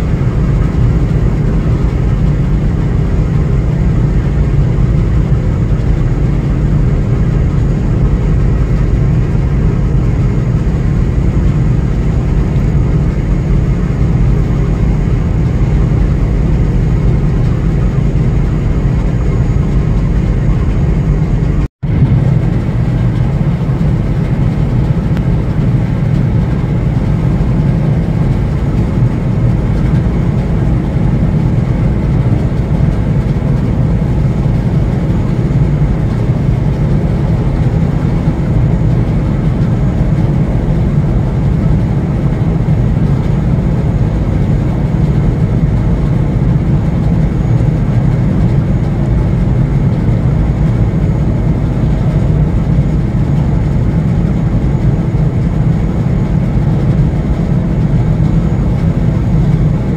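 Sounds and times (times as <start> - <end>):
boat engine rumble: 0.0 - 59.9.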